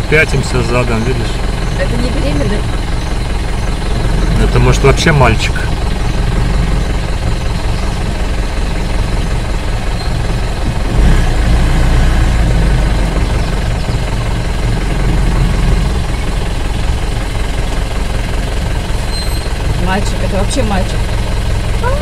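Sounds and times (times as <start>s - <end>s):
jeep engine running: 0.0s - 22.0s.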